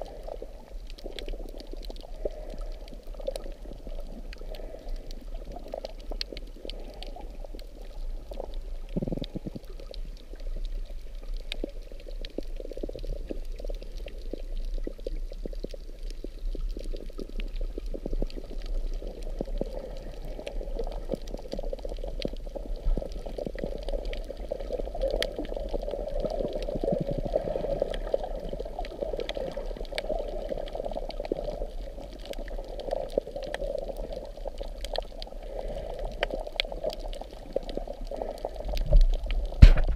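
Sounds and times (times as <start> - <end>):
faint scattered clicks: 0.0 - 39.6
underwater sloshing and bubbling: 0.0 - 39.9.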